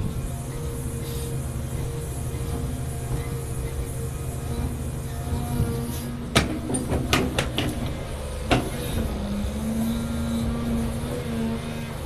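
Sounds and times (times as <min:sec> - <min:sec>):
excavator engine and hydraulics: 0:00.0 - 0:12.0.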